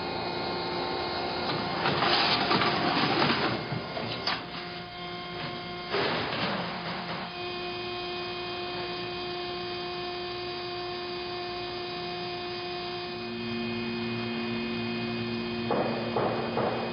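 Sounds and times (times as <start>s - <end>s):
machine hum with held tones: 0.0s - 16.9s.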